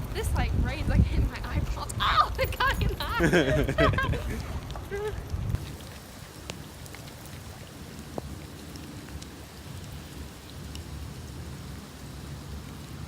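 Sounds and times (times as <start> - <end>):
raindrops tapping: 0.0 - 13.0
steady rain hissing: 0.0 - 13.0.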